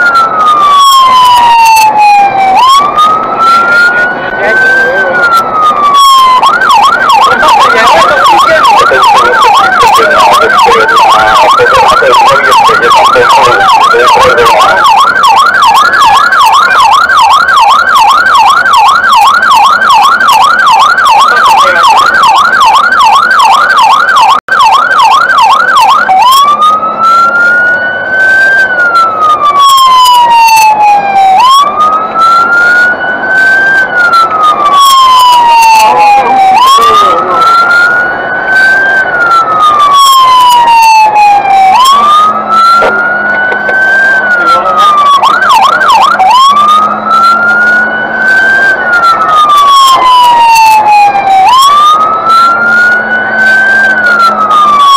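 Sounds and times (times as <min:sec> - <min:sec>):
fire engine siren: 0:00.0 - 0:54.9.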